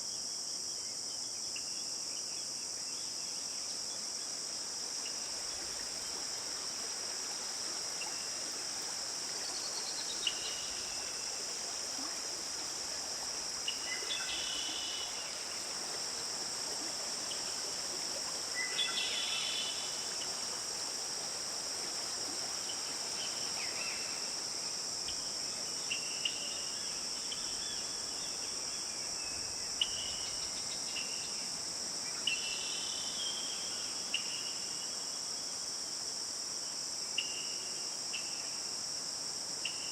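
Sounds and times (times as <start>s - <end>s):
insects trilling: 0.0s - 35.6s.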